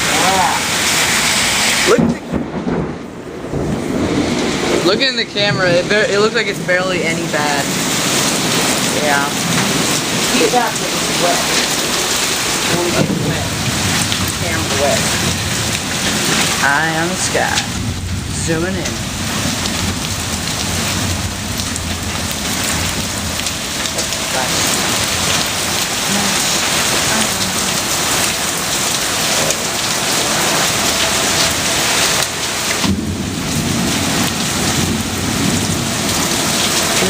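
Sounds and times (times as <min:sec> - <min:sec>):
heavy rain pouring: 0:00.0 - 0:37.0
thunder rumbling: 0:00.0 - 0:37.0.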